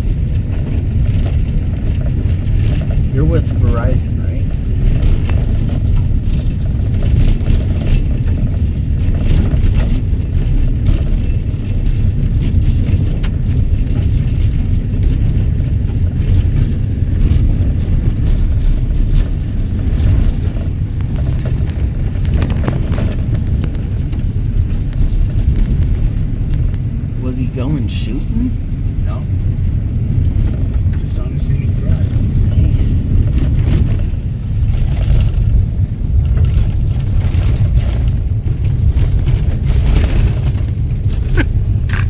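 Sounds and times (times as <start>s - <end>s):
vehicle rumble on dirt road: 0.0s - 42.0s.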